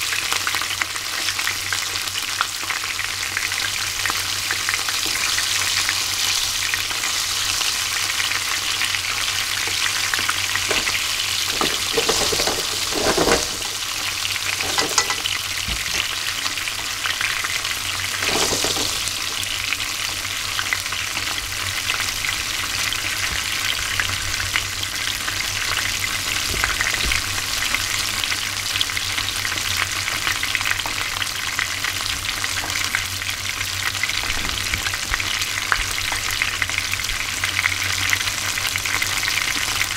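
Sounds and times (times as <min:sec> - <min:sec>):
fish deep-frying in oil: 0:00.0 - 0:39.9.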